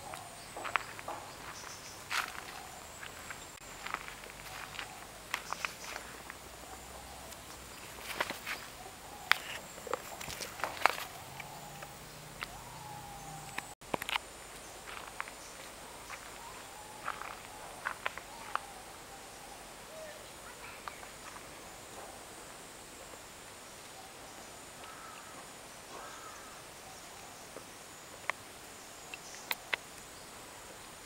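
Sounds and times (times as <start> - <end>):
high insect drone: 0.0 - 31.0.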